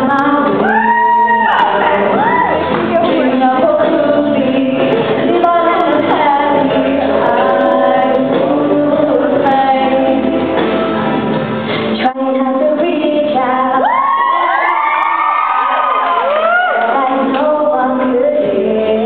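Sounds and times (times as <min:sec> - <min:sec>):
backing music: 0:00.0 - 0:19.0
girls singing into microphones: 0:00.0 - 0:19.0.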